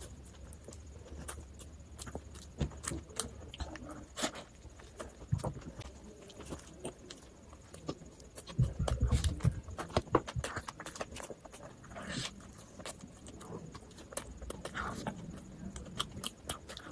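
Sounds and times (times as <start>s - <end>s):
chewing crunches and mouth noises: 0.0s - 16.9s.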